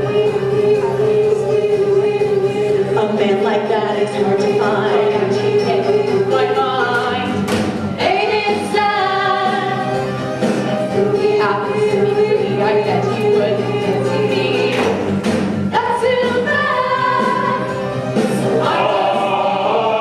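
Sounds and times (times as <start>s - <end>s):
ensemble singing in chorus: 0.0s - 20.0s.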